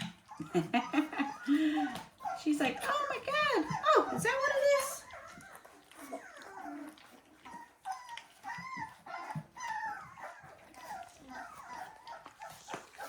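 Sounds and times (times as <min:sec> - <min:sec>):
puppies whimpering: 0:00.0 - 0:13.0.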